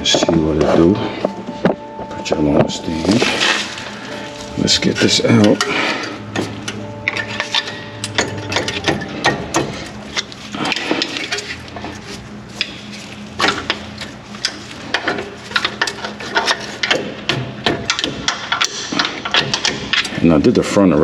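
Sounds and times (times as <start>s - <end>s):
metallic clanks and rattles: 2.5s - 20.6s.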